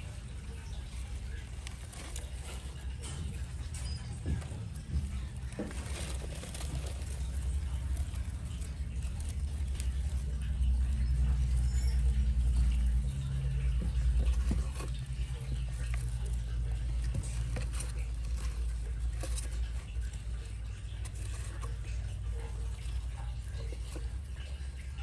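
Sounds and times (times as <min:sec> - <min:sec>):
light scratches and taps: 0:00.0 - 0:25.0
low steady hum: 0:00.0 - 0:25.0
small animals scurrying in bedding: 0:00.0 - 0:25.0.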